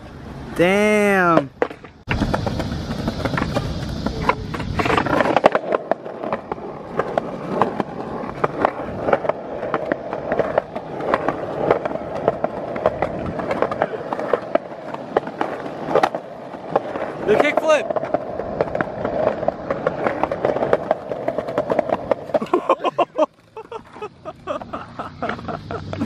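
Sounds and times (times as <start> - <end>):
skateboard wheels rolling on concrete: 0.0 - 26.0
skateboard clicks and knocks: 0.9 - 26.0.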